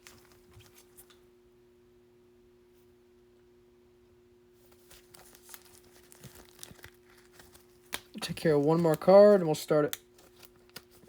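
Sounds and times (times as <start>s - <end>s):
faint two-tone hum: 0.0s - 11.0s.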